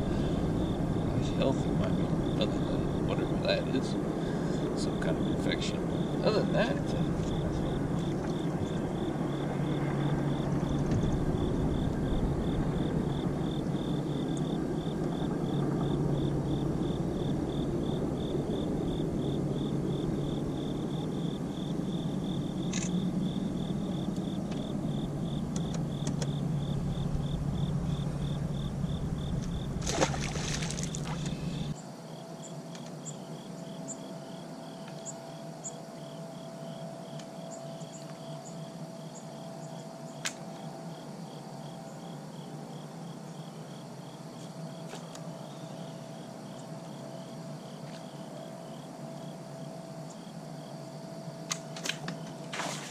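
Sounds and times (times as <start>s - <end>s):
insects chirping: 0.0s - 52.9s
low steady hum: 0.0s - 52.9s.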